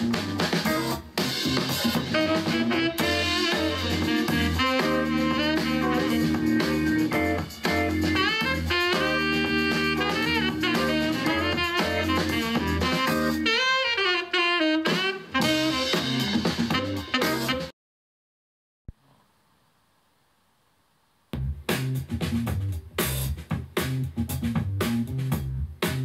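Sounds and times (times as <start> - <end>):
jazzy music with horns and drums: 0.0 - 17.7, 21.4 - 26.0.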